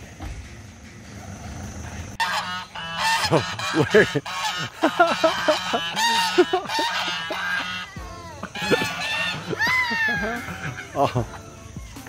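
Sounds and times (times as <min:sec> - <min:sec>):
geese honking: 0:01.1 - 0:11.8.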